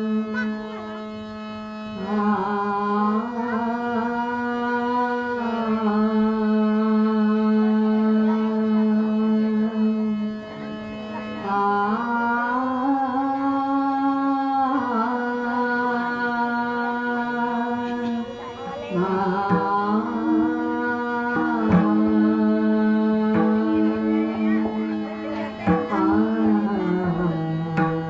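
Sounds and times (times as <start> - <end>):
devotional melody of held notes: 0.0 - 28.0.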